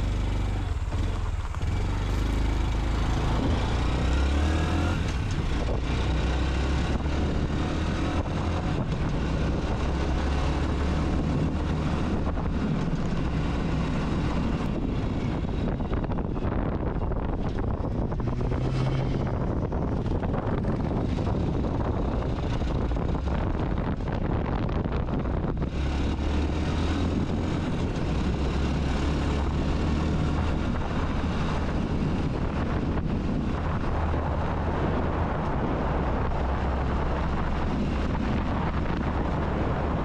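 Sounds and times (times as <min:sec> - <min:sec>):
motorbike engine droning: 0:00.0 - 0:40.0
wind rushing on microphone: 0:00.0 - 0:40.0.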